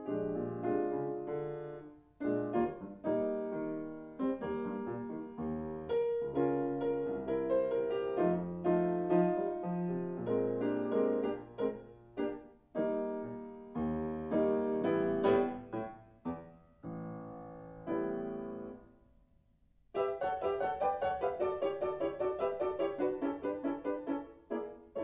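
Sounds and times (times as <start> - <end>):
solo piano chords and melody: 0.0 - 19.2, 19.9 - 25.0.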